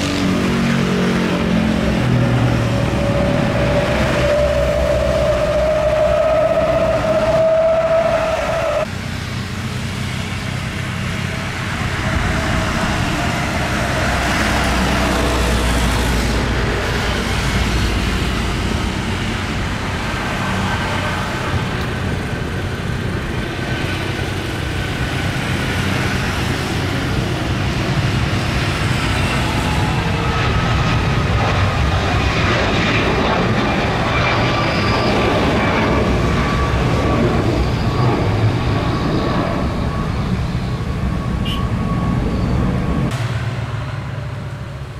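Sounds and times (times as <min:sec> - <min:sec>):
high engine whine: 0:00.0 - 0:44.9
jet engines at take-off power: 0:00.0 - 0:44.9.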